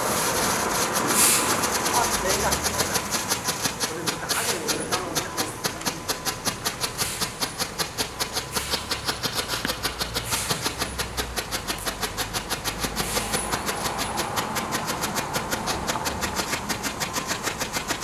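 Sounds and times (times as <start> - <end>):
firework popping rapidly: 0.0 - 18.0.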